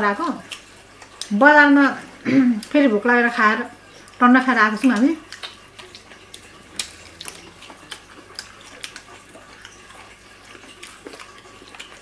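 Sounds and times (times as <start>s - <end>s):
people eating crunchy food: 0.0s - 12.0s.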